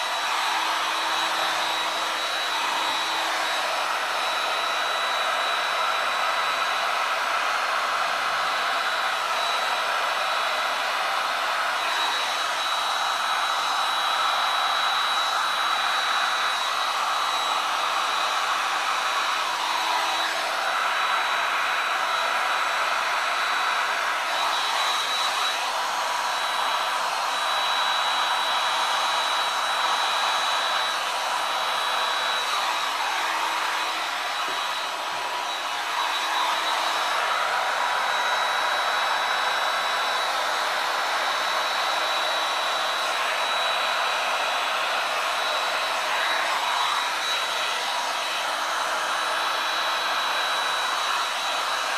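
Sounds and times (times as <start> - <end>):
blower rushing air with whine: 0.0 - 51.9.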